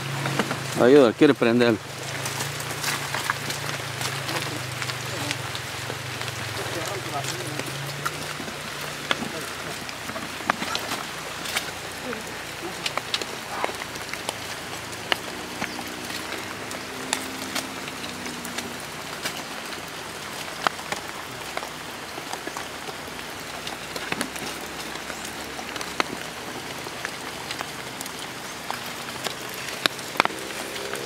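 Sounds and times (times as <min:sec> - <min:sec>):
dripping water ticks: 0:00.0 - 0:31.0
rain on foliage: 0:00.0 - 0:31.0.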